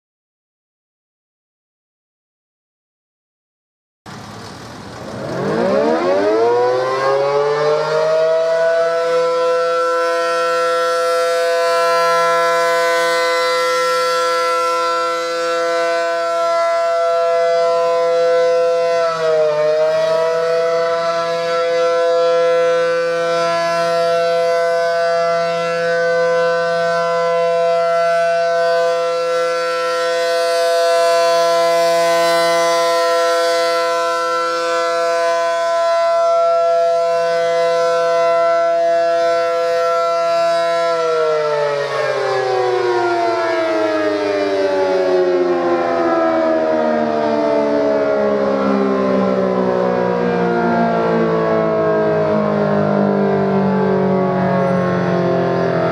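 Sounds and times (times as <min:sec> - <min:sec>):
rotating siren wailing: 0:04.9 - 0:55.9.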